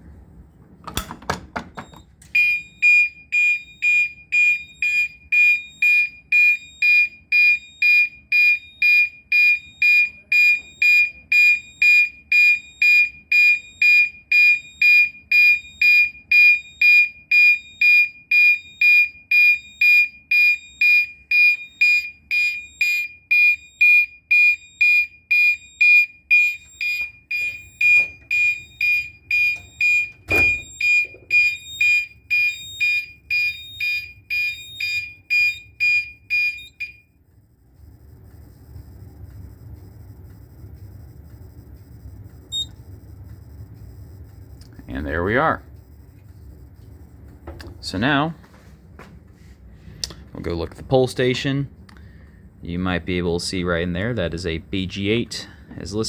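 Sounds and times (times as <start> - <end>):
fire alarm horn pulsing tone: 1.8 - 48.6.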